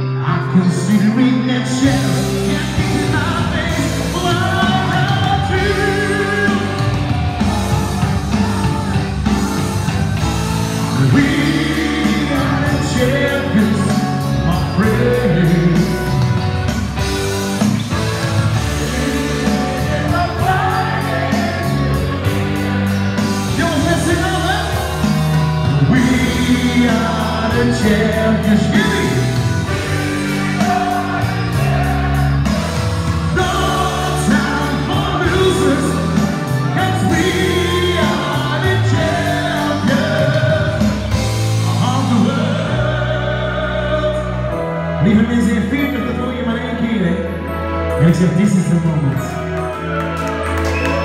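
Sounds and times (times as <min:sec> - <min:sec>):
person singing live: 0:00.0 - 0:47.2
instrumental backing music: 0:00.0 - 0:51.0.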